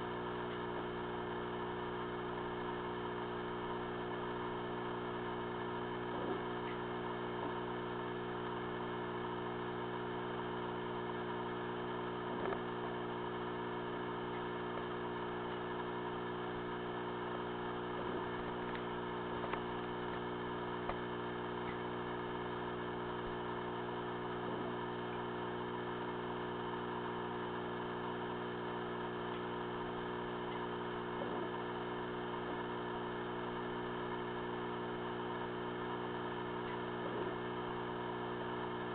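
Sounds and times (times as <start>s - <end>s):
aquarium equipment hum: 0.0s - 38.9s.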